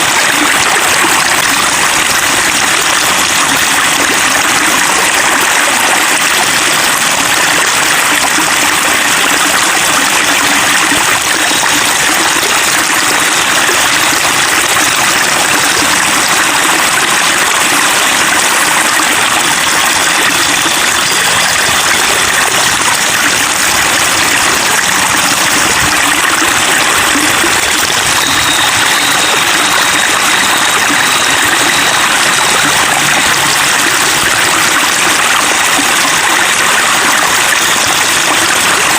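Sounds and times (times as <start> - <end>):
water babbling: 0.0 - 38.9.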